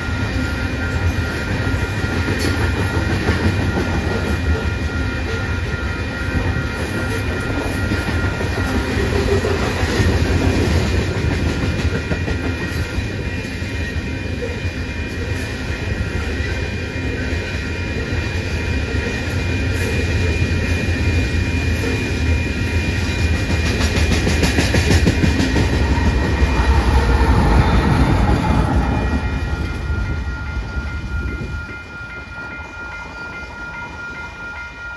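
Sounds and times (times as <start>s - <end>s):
train wheels clattering on rails: 0.0s - 34.8s
deep rumble of train: 0.0s - 34.9s
diesel locomotive passing: 0.0s - 34.9s
steady high ringing tone: 0.0s - 34.9s.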